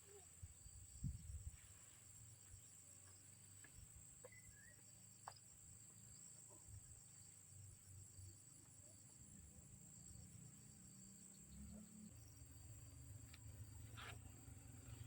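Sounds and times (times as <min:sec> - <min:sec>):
insect chirring: 0:02.2 - 0:15.0.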